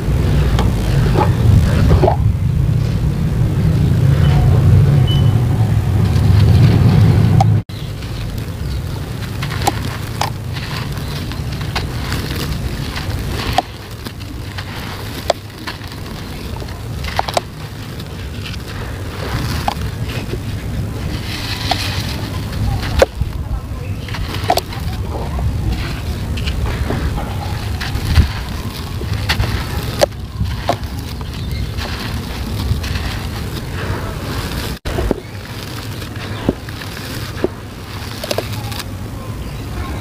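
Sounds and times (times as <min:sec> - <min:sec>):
low rumble: 0:00.0 - 0:39.8
hands crumbling gritty sand: 0:06.0 - 0:39.0.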